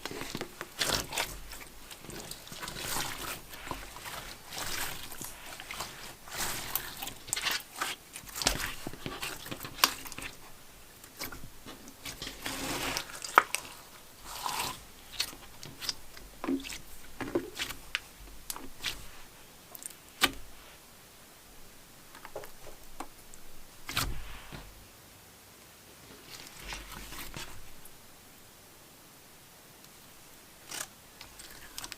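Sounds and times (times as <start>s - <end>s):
wet slime squishing: 0.0s - 20.8s, 22.0s - 24.7s, 26.2s - 28.0s, 30.6s - 31.9s.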